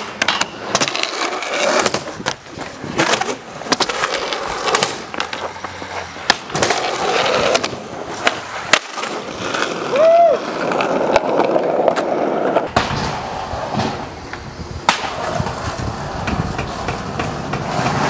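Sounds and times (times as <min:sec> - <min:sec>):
skateboard clacking on ground: 0:00.0 - 0:18.0
skateboard wheels rolling: 0:00.0 - 0:18.0.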